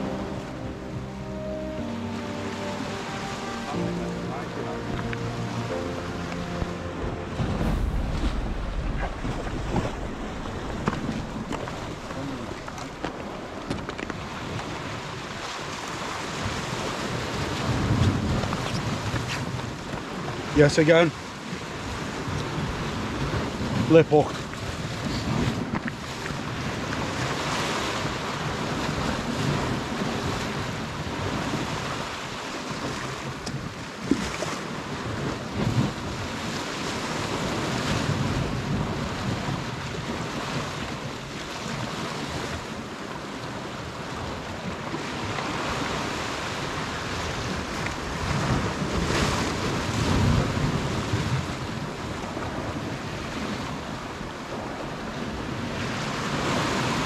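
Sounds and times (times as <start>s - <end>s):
sea waves washing: 0.0s - 57.0s
wind buffeting microphone: 4.8s - 57.0s.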